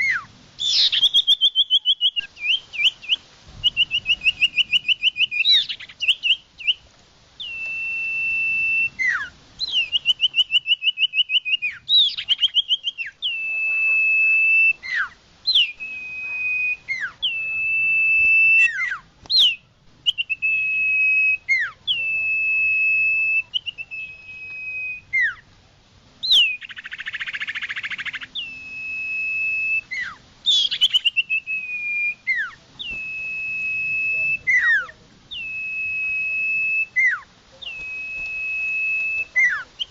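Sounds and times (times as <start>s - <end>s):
bird trills: 0.0s - 6.8s, 7.4s - 25.5s, 26.2s - 39.9s
bird whistling calls: 0.0s - 25.5s, 26.2s - 39.9s.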